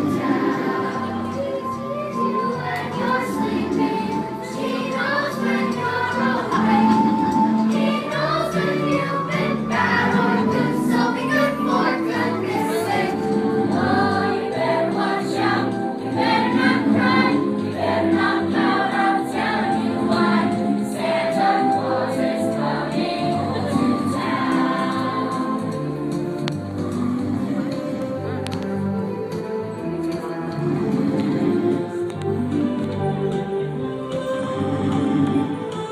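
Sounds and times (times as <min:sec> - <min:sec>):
group of voices singing: 0:00.0 - 0:29.2, 0:30.0 - 0:35.9.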